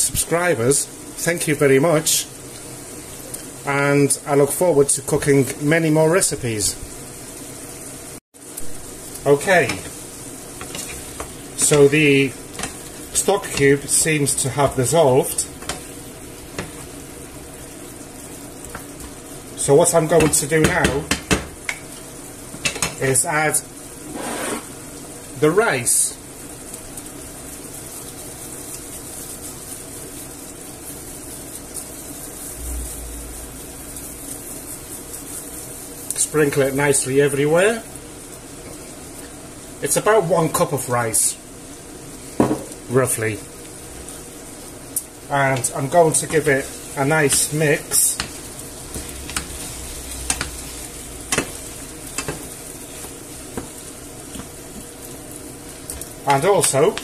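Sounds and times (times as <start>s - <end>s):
sauce bubbling in a frying pan: 0.0s - 57.0s.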